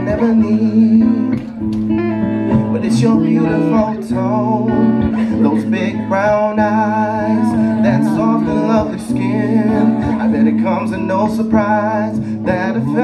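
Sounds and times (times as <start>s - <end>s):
man singing into a microphone: 0.0s - 1.6s, 2.5s - 13.0s
electric guitar: 0.0s - 13.0s.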